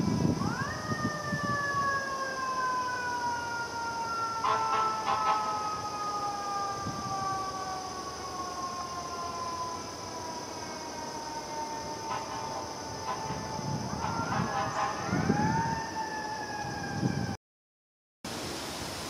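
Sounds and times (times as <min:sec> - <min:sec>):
siren wailing: 0:00.0 - 0:17.4.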